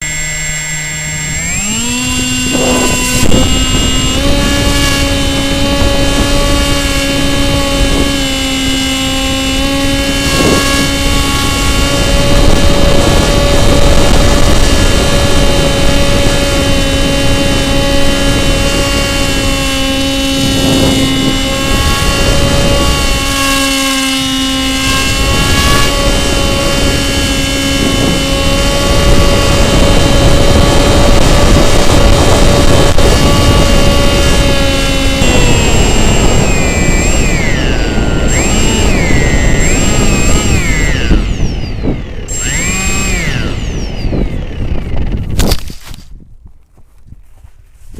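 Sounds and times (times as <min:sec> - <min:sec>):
model airplane motor droning: 0:00.0 - 0:47.9
wind rumble on microphone: 0:00.0 - 0:47.9.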